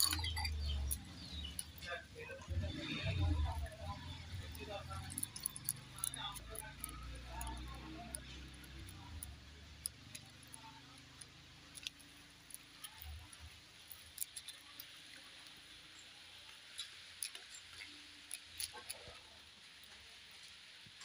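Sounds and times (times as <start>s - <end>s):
eating by hand: 0.0s - 20.7s.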